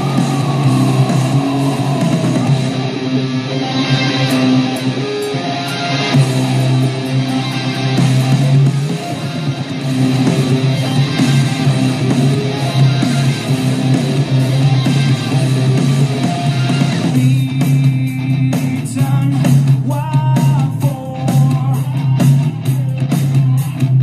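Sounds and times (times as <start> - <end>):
heavy metal music with electric guitar: 0.0 - 24.0.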